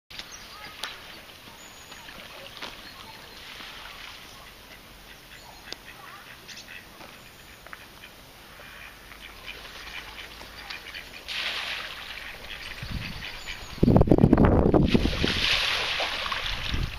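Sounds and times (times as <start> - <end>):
waterfowl calling: 0.4 - 14.4.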